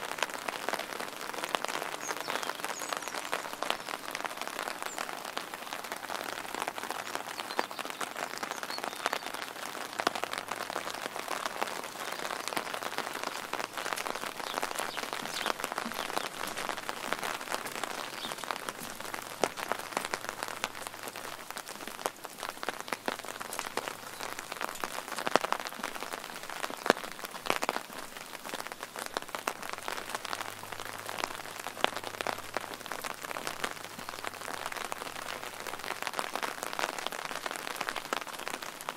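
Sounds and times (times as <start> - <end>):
close raindrops ticking: 0.0 - 38.9
steady rain: 0.0 - 38.9.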